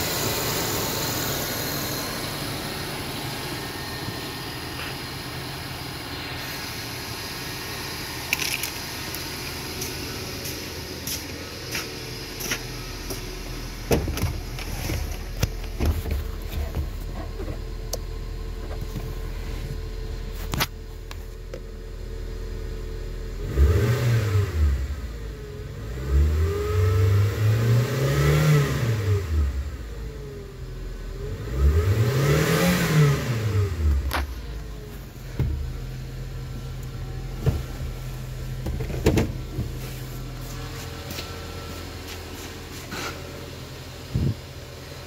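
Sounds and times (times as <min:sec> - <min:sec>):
car engine idling and revving: 0:00.0 - 0:45.0.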